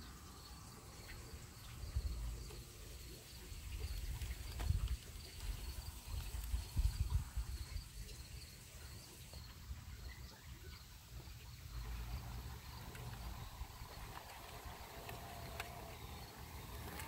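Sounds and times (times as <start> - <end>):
faint hum: 0.0 - 17.0
insects chirping: 0.0 - 17.0.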